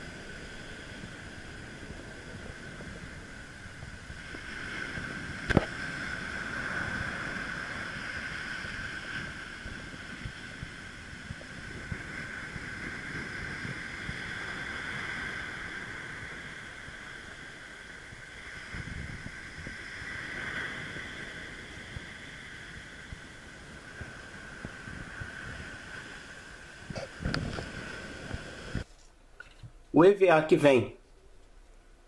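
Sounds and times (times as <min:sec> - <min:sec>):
surf washing on a beach: 0:00.0 - 0:28.9
wind buffeting the microphone: 0:00.0 - 0:28.9.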